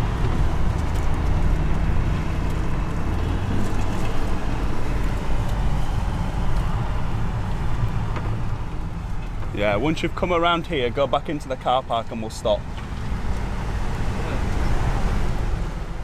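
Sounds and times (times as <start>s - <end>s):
road noise: 0.0s - 16.0s
vehicle engines low rumble: 0.0s - 16.0s.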